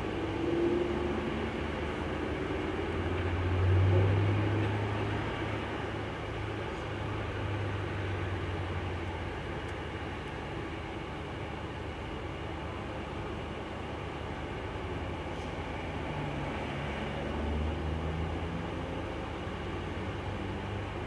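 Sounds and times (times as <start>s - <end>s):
sports car engines running: 0.0s - 21.0s.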